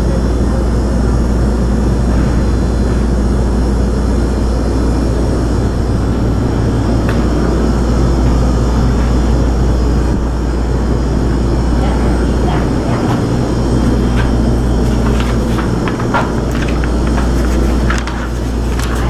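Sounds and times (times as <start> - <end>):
loud low drone: 0.0 - 19.0.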